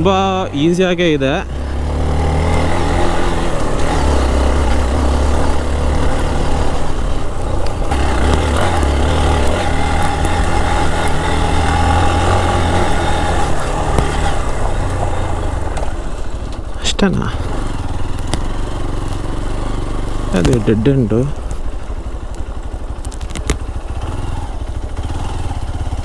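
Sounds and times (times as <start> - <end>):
motorcycle engine running: 0.0 - 26.0
riding noise: 0.0 - 26.0.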